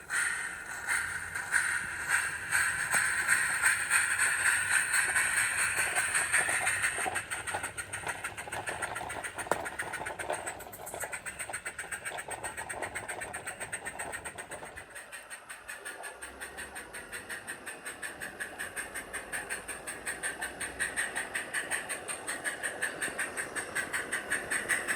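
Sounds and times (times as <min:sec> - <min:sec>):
steam hiss: 0:00.0 - 0:24.9
steam locomotive chuffing: 0:00.0 - 0:24.9.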